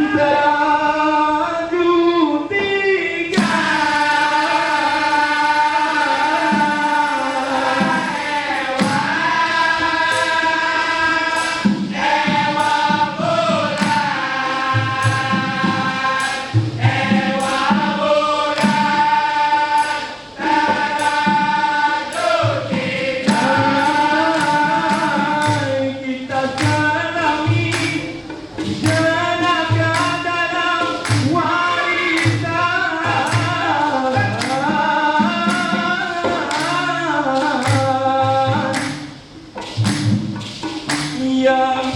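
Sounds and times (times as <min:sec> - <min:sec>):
group singing in harmony: 0:02.4 - 0:41.9
percussion beat: 0:03.3 - 0:41.9.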